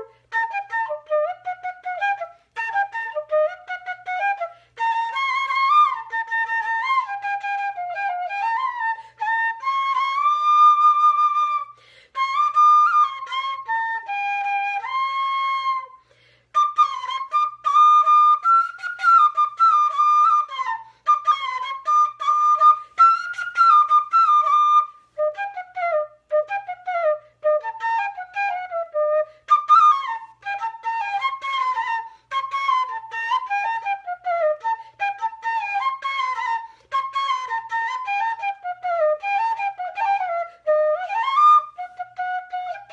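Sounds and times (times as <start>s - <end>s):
bamboo flute melody: 0.0s - 42.9s.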